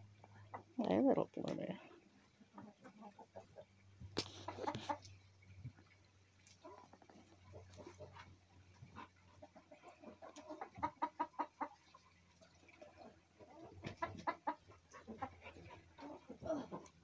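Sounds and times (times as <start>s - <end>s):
chicken clucking: 2.2s - 17.0s.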